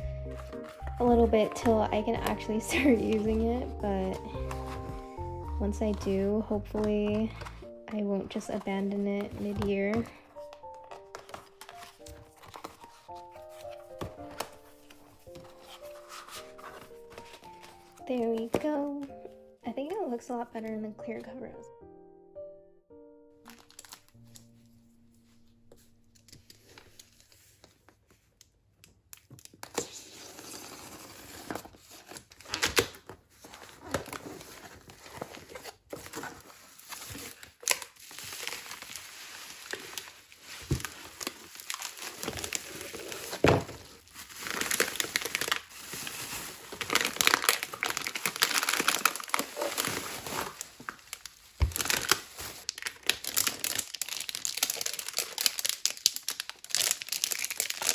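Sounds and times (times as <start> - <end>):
bubble wrap and plastic crinkling: 0.0 - 21.2, 23.4 - 57.9.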